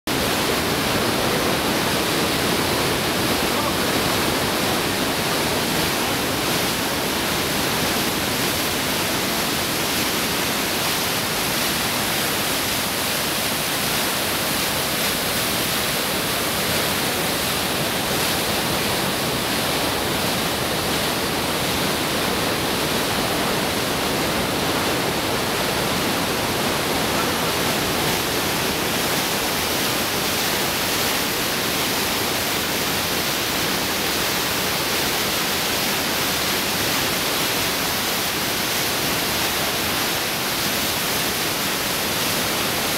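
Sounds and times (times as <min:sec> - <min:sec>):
waterfall rushing: 0:00.1 - 0:42.9.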